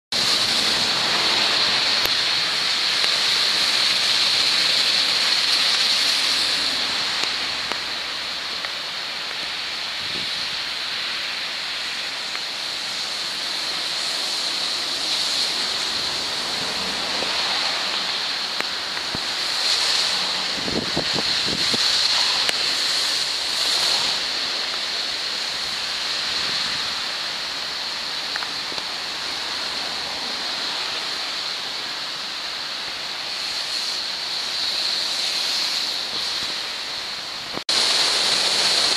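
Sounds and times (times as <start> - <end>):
river water rushing: 0.1 - 38.9.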